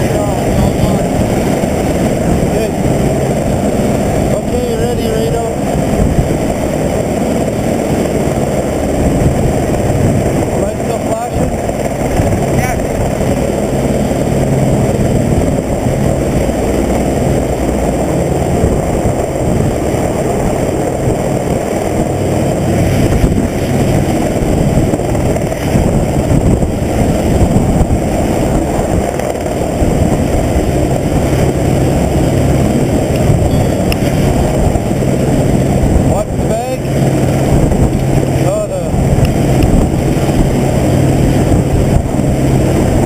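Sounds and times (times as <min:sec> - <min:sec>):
helicopter engine and rotor drone: 0:00.0 - 0:43.0.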